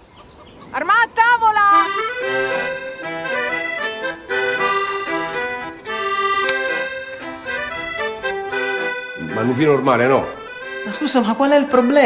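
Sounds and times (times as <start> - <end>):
accordion music: 0.9 - 12.0.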